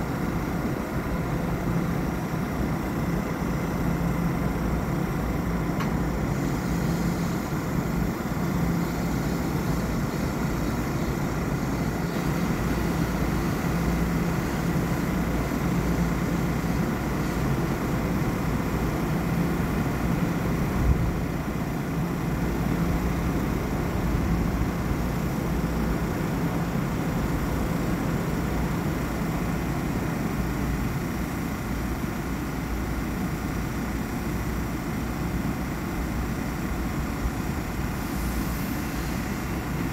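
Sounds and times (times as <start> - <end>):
standing electric train humming: 0.0 - 39.9.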